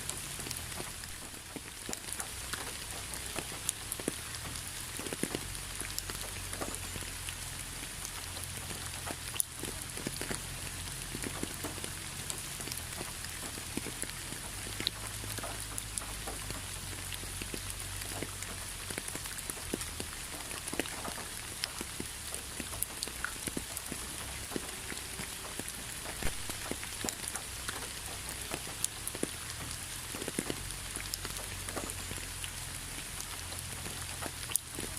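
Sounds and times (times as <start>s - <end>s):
rain hiss: 0.0s - 34.9s.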